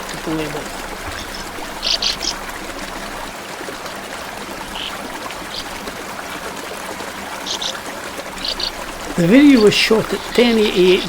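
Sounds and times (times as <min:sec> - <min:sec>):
stream running: 0:00.0 - 0:11.0.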